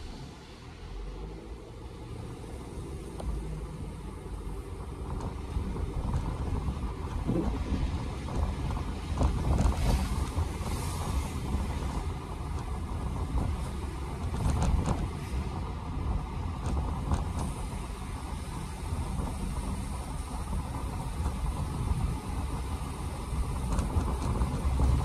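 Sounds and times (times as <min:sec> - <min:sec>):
tyres on wet road rumbling: 0:00.0 - 0:25.0.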